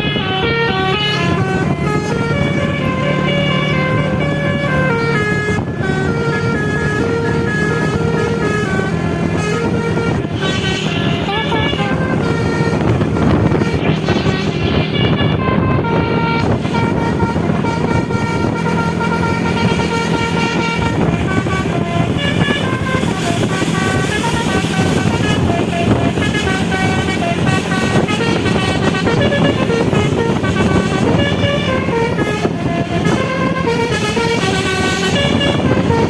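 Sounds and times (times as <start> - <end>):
multi-tone bus horn melody: 0.0 - 36.0.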